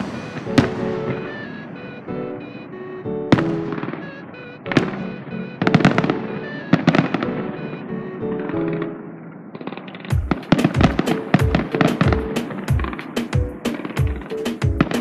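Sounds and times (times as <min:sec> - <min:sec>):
background music: 0:00.0 - 0:09.5, 0:10.1 - 0:15.0
fireworks bursting: 0:00.0 - 0:15.0.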